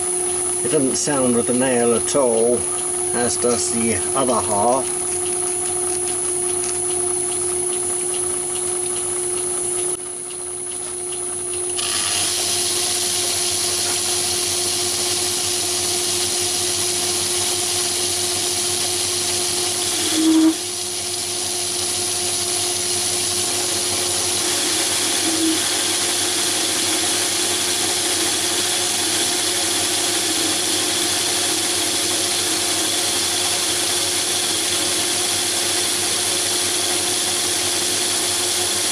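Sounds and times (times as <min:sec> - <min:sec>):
lathe humming: 0:00.0 - 0:38.9.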